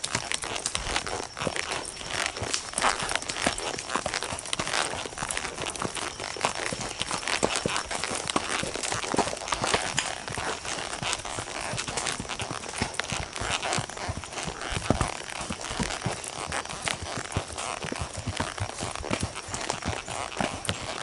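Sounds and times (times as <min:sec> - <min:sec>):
hooves on leaf litter: 0:00.0 - 0:21.0.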